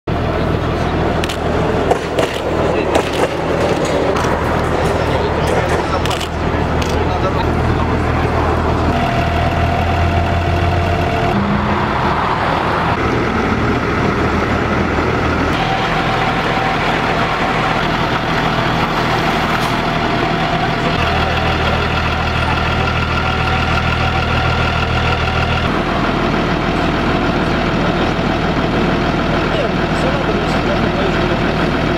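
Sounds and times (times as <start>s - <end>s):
diesel engine running: 0.0s - 31.9s
steady whine: 0.1s - 31.9s.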